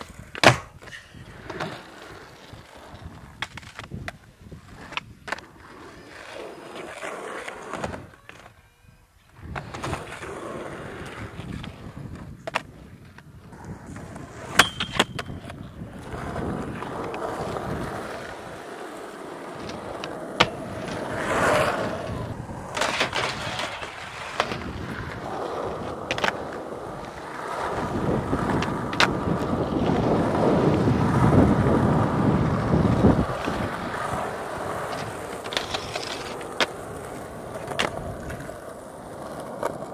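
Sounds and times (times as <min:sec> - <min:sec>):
skateboard clacks: 0:00.0 - 0:08.6, 0:09.3 - 0:39.9
skateboard wheels rolling on tarmac: 0:00.0 - 0:39.9.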